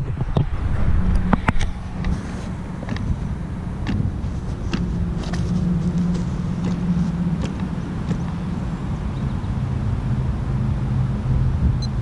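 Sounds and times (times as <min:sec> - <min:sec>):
wind rumbling on microphone: 0:00.0 - 0:12.0
model airplane engine buzzing: 0:01.0 - 0:12.0.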